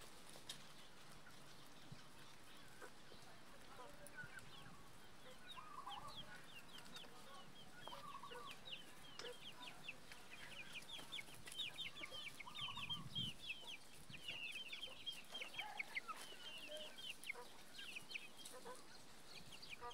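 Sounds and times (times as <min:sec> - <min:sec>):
chickens clucking: 0:00.0 - 0:19.9
chicks peeping: 0:00.0 - 0:19.9.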